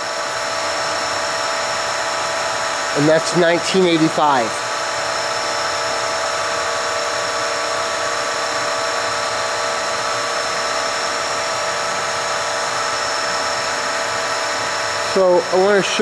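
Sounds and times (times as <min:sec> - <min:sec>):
drill press spindle whine: 0:00.0 - 0:16.0.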